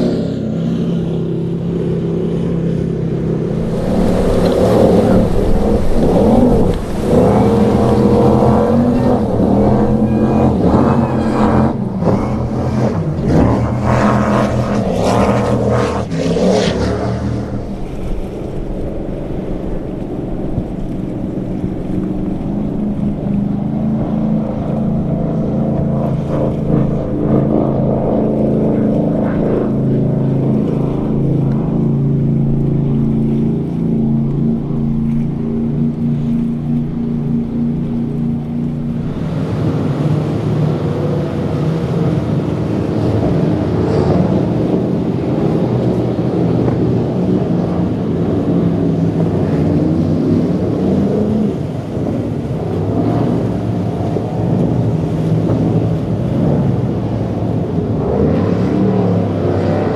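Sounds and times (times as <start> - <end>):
speedboat engines running hard: 0.0 - 59.9.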